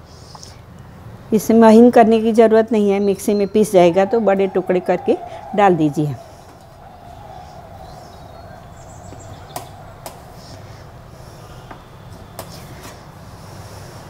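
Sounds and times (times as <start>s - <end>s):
steady low hum: 1.2s - 14.0s.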